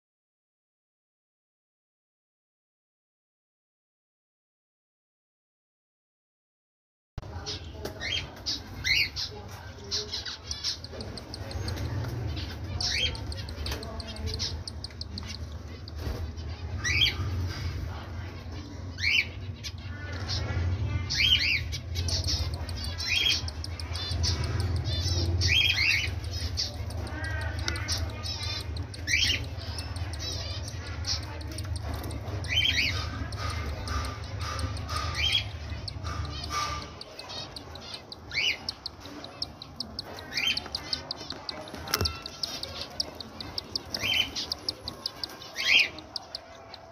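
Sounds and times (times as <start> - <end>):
cockatiels chirping and squawking: 7.3 - 46.9.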